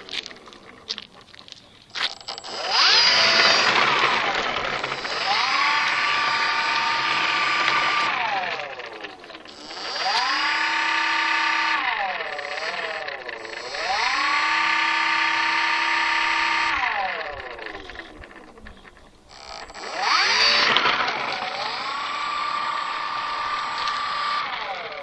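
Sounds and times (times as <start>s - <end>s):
model plane motor whining: 0.0s - 25.0s.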